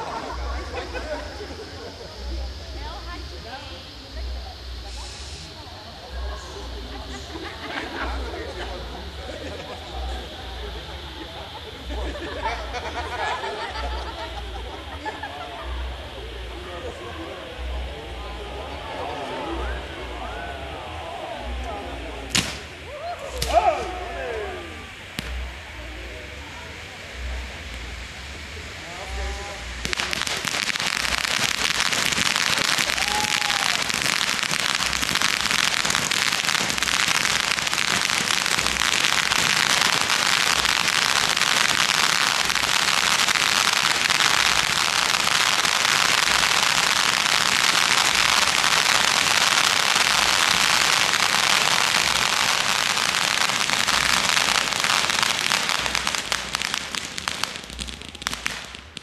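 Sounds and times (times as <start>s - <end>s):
firework fountains hissing and crackling: 0.0s - 59.0s.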